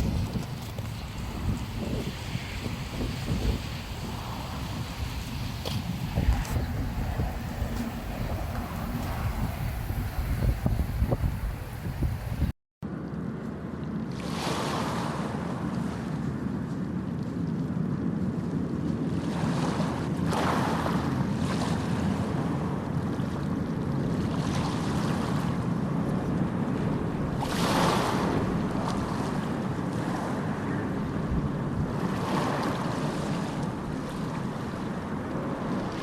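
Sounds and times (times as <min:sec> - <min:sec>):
sea waves washing ashore: 0:00.0 - 0:12.5, 0:13.6 - 0:36.0
wind rumble on microphone: 0:00.0 - 0:36.0.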